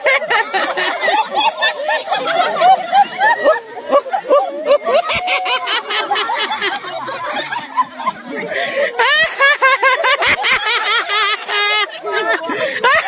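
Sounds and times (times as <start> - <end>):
women laughing: 0.0 - 13.0.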